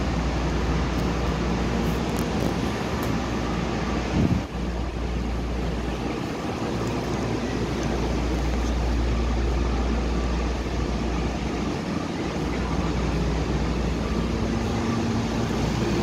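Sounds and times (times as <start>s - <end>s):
standing train equipment hum: 0.0s - 16.0s.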